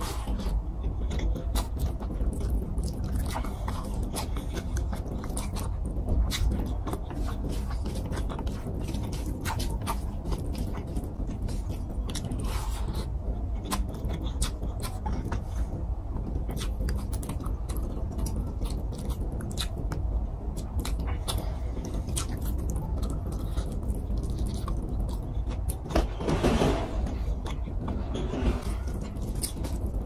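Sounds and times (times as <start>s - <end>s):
chewing and lip smacking: 0.0s - 26.0s, 28.7s - 30.0s
steady low hum: 0.0s - 30.0s.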